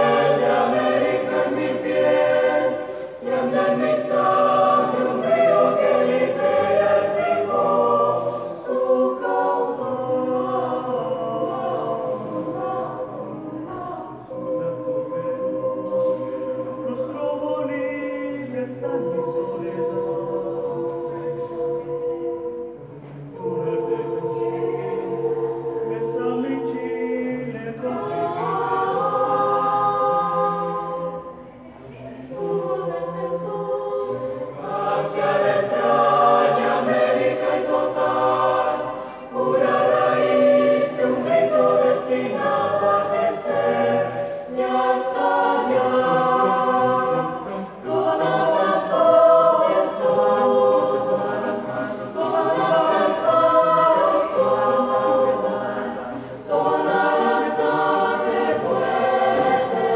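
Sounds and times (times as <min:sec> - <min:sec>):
youth choir singing a cappella: 0:00.0 - 0:59.9.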